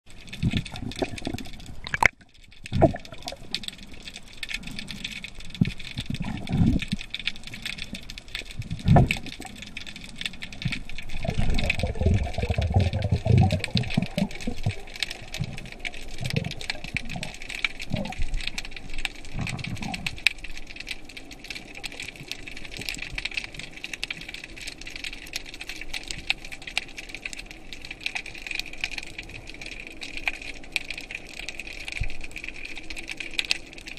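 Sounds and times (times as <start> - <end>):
underwater crackling hiss: 0.1 - 33.9
water rushing against camera: 0.1 - 33.9.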